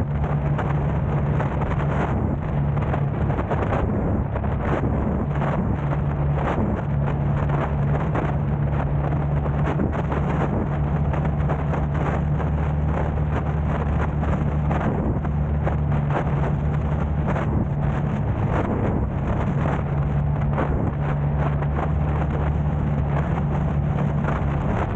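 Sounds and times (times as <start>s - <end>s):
car engine and road drone: 0.0s - 24.9s
wind buffeting microphone: 0.0s - 24.9s.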